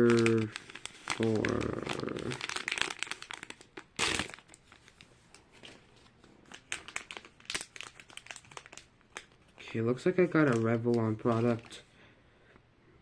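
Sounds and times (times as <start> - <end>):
plastic bag crinkling: 0.0 - 5.5, 6.4 - 11.8.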